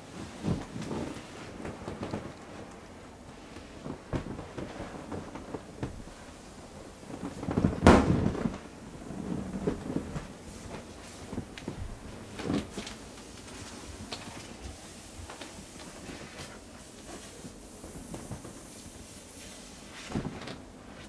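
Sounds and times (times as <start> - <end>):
small clicks and rustles: 0.1 - 21.0.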